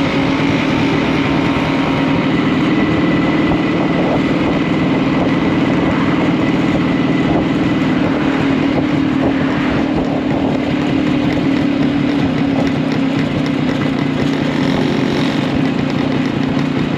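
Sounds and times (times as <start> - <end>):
two-stroke engine running: 0.0 - 16.9.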